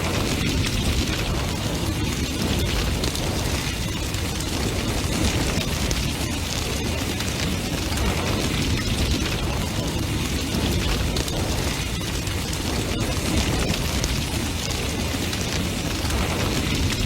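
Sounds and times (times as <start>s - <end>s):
fire crackling and popping: 0.0s - 17.0s
roar of flames: 0.0s - 17.0s.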